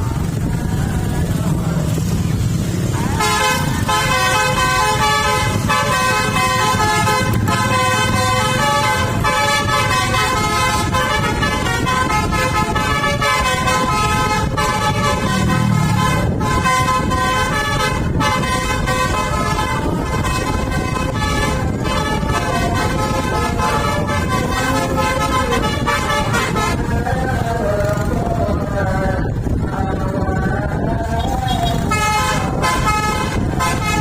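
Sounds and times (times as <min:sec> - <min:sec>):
bus engine rumble: 0:00.0 - 0:34.0
multi-tone bus horn melody: 0:03.0 - 0:34.0.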